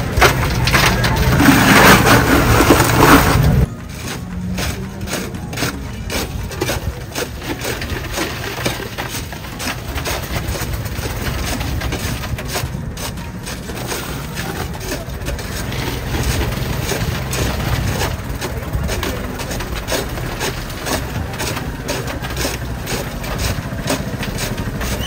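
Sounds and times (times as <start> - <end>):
ice crunching and scraping: 0.0 - 25.0
street traffic rumble: 0.0 - 25.0.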